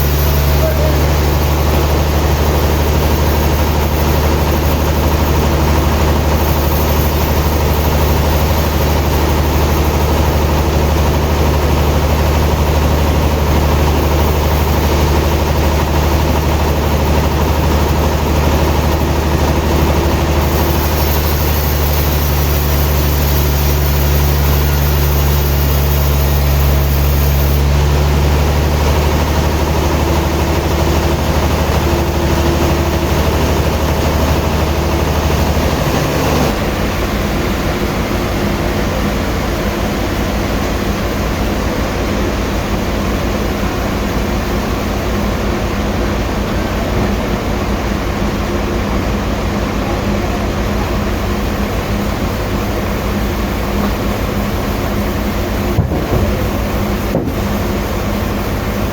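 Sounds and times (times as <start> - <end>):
heavy engine idling: 0.0 - 58.9.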